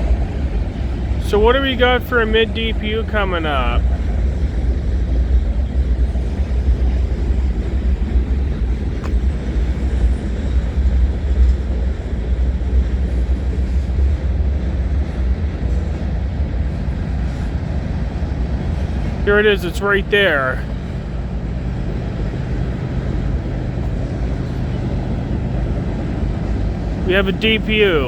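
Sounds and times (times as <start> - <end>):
freight train wheels rumbling on track: 0.0 - 28.0.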